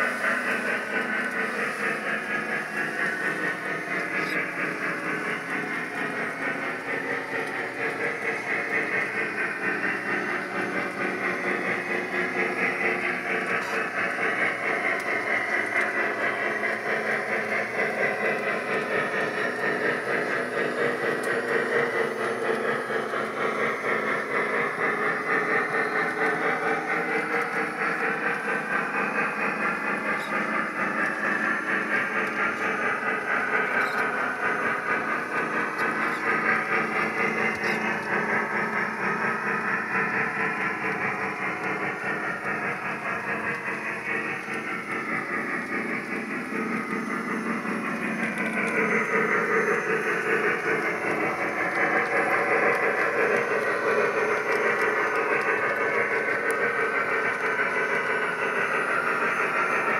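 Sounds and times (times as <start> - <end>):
model trains running on track: 0.0 - 59.9.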